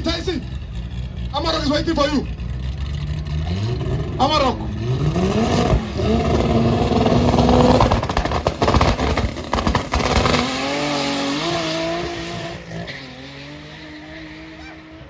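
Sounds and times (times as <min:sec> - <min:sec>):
cars launching with tyre noise: 0:00.0 - 0:15.0
engine pulling away through gears: 0:00.0 - 0:15.0.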